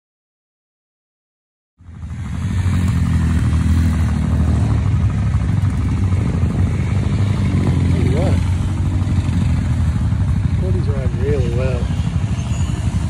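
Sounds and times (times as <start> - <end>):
motorcycles idling: 1.8 - 13.0.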